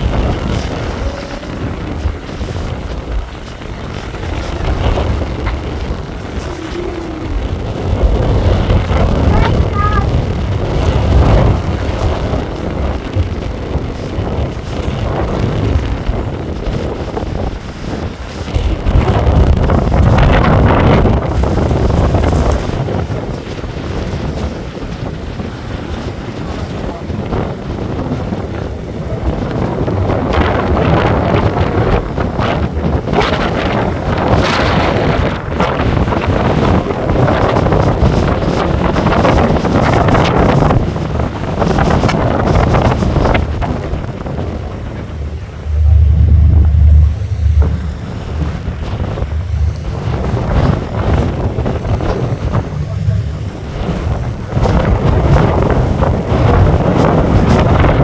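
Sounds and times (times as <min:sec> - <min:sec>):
boat moving on water: 0:00.0 - 0:58.0
steady low rumble: 0:00.0 - 0:58.0
wind buffeting microphone: 0:00.0 - 0:58.0.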